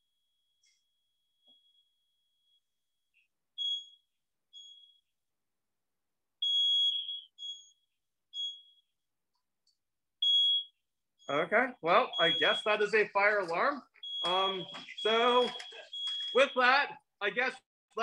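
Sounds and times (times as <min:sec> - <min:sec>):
fire alarm beeps: 0:00.0 - 0:05.1, 0:06.4 - 0:09.0, 0:10.2 - 0:17.0.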